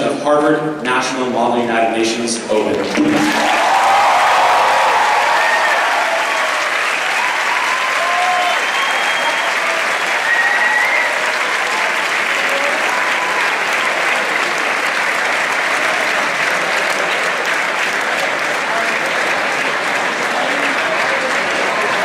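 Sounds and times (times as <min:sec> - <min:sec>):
audience applauding: 0:02.8 - 0:22.0.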